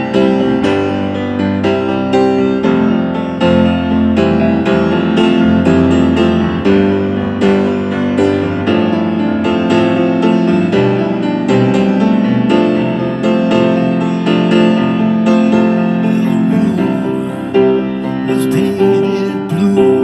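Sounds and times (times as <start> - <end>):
rock piano playing: 0.0 - 20.0.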